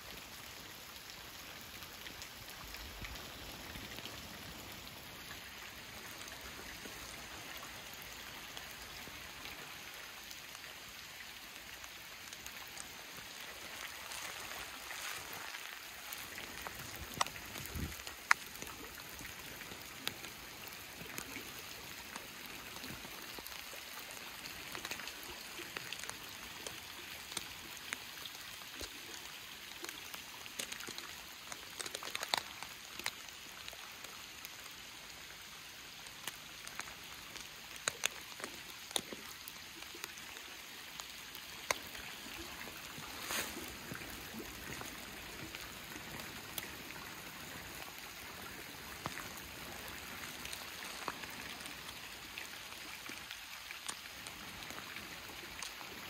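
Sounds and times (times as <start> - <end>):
rain falling on pond water: 0.0 - 56.0.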